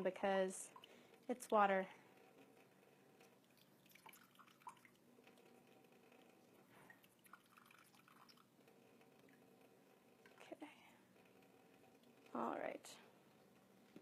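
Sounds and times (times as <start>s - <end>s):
water trickling through funnel: 0.1s - 12.5s.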